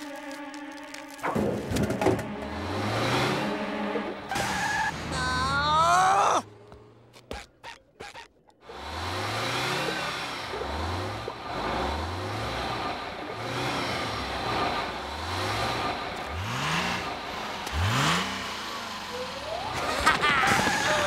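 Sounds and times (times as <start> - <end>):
cartoon bus engine revving: 1.5 - 21.0.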